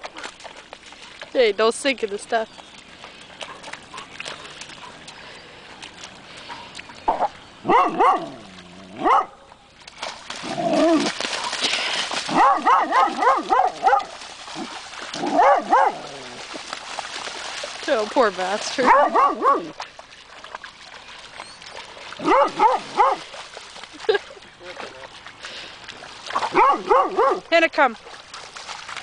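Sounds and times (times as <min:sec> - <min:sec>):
water splashing: 0:00.0 - 0:29.0.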